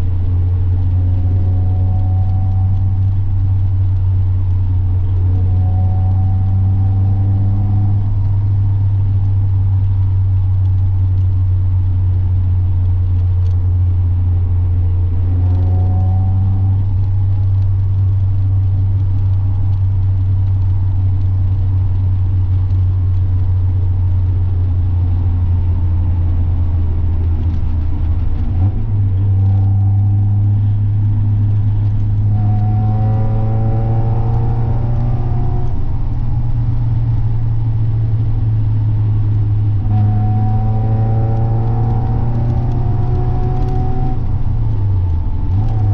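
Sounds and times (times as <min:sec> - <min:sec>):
car engine and exhaust droning: 0:00.0 - 0:45.9.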